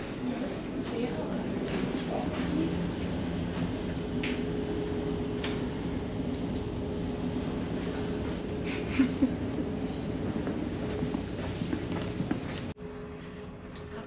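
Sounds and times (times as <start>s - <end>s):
ferry engines droning: 0.0s - 14.0s.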